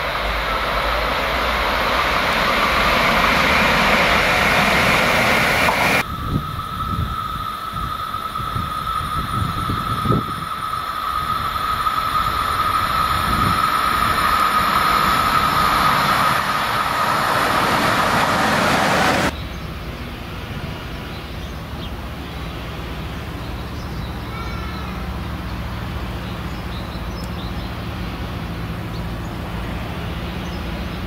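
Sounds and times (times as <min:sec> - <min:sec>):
diesel locomotive humming: 0:00.0 - 0:31.0
electric train whine and rumble: 0:00.0 - 0:31.0.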